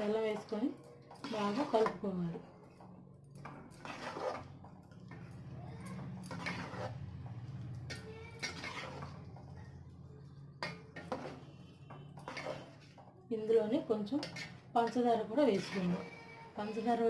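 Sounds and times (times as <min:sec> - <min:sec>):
ladle scraping and clinking pot: 0:00.0 - 0:02.8, 0:03.4 - 0:09.8, 0:10.6 - 0:17.0
metal ladle stirring thick pudding: 0:00.3 - 0:09.8, 0:10.5 - 0:17.0.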